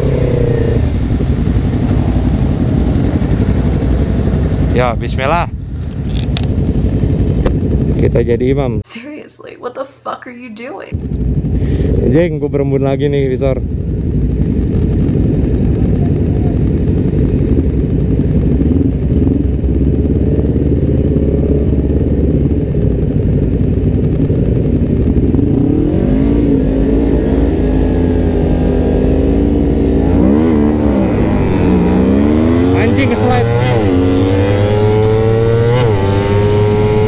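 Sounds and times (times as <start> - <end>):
motorcycle engines revving: 0.0 - 8.8, 11.0 - 37.0.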